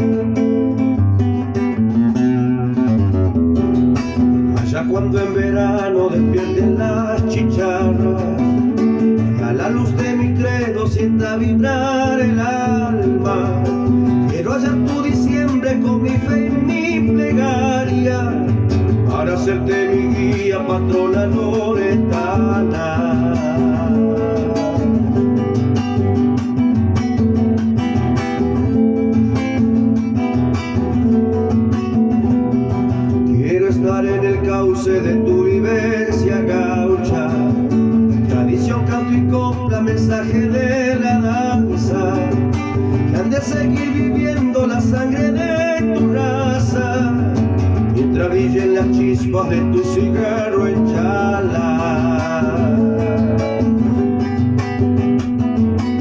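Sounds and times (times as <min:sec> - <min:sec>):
man singing: 0:00.0 - 0:03.4, 0:04.1 - 0:26.6, 0:27.2 - 0:56.0
acoustic guitar: 0:00.0 - 0:56.0.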